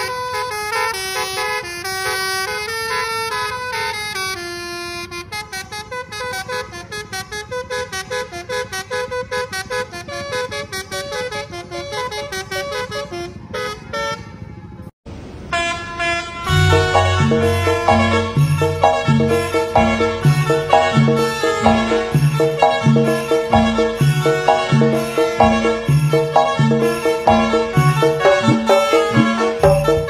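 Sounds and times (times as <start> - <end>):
musical bus horn melody: 0.0 - 14.4, 15.5 - 30.0.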